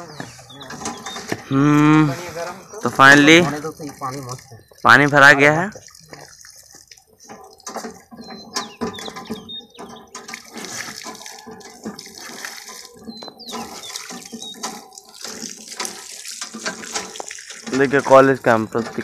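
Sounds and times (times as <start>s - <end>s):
water splashing on concrete: 0.0s - 19.0s.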